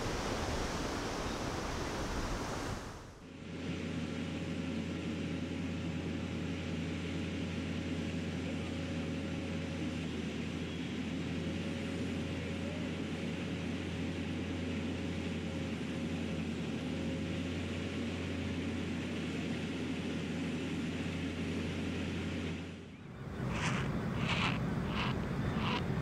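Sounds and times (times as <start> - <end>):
faint machine whine: 0.0 - 26.0
machinery rumble and hum: 3.1 - 26.0.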